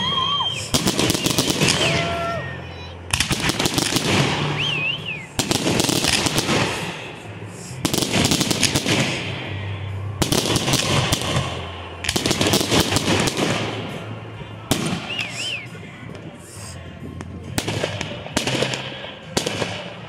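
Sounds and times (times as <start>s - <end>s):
firework whistle: 0.0s - 14.1s, 14.7s - 16.8s
fireworks crackling bangs: 0.5s - 2.4s, 3.0s - 20.0s.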